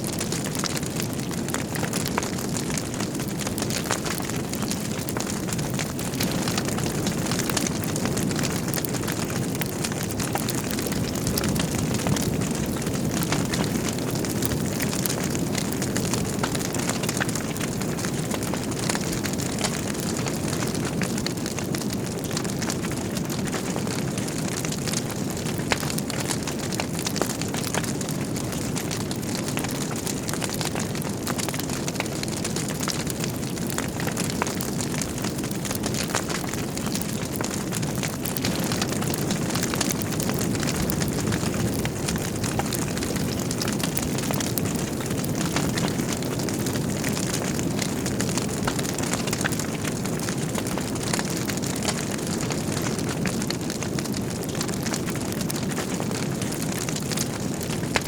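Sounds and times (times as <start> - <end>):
fire crackles and pops: 0.0 - 58.0
low rush of flames: 0.1 - 58.0.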